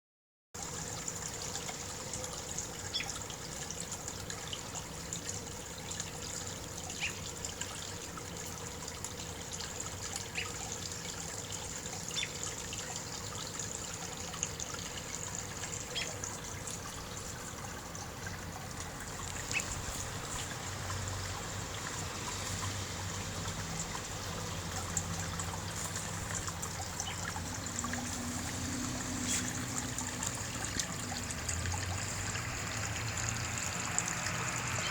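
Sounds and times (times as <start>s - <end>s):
brook water trickling: 0.6s - 34.9s
water drips and splashes: 0.6s - 34.9s.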